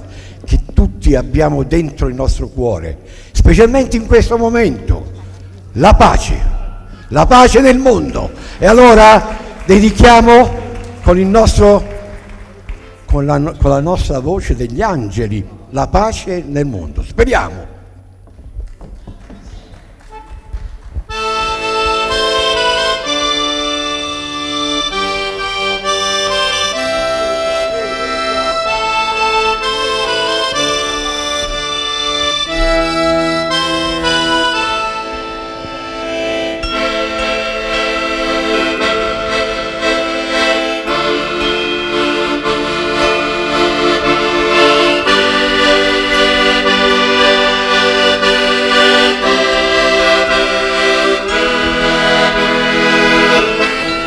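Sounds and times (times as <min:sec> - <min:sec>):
accordion playing slow melody: 0:00.0 - 0:00.8, 0:03.1 - 0:13.9, 0:19.5 - 0:54.0.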